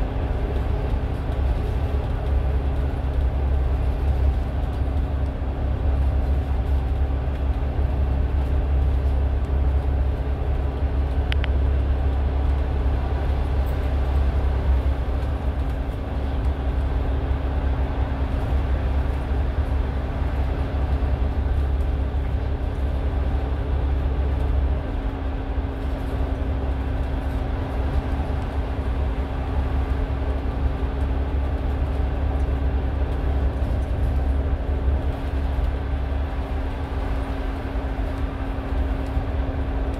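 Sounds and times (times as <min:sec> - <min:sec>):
bus engine and tyres rumbling: 0:00.0 - 0:39.9
constant hum: 0:00.0 - 0:39.9.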